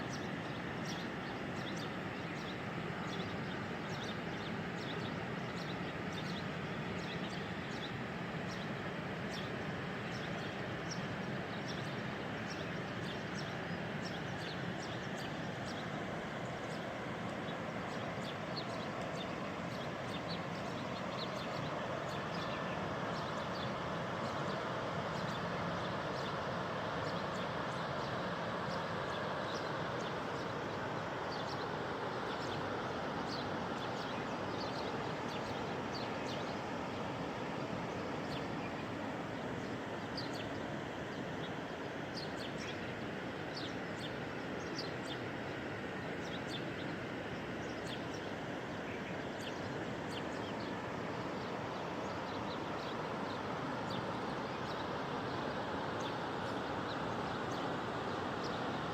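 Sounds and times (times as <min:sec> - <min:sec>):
birds chirping: 0:00.0 - 0:58.9.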